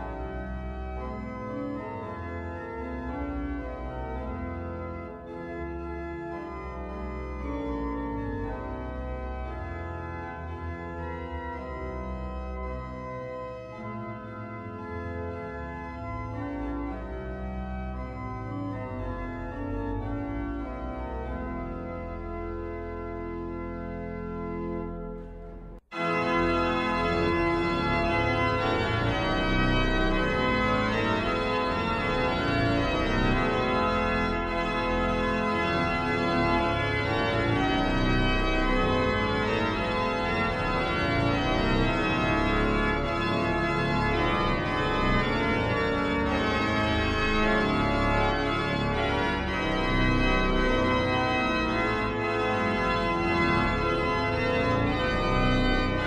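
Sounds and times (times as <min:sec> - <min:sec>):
organ playing hymn chords: 0:00.0 - 0:56.0.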